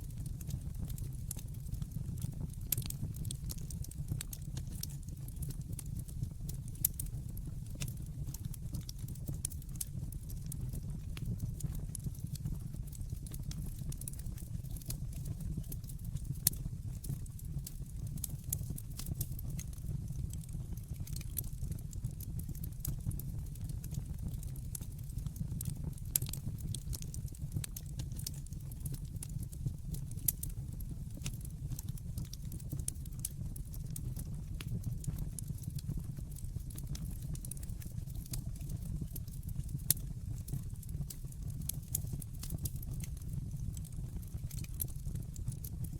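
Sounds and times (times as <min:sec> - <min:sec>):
logs crackling and popping: 0:00.1 - 0:45.8.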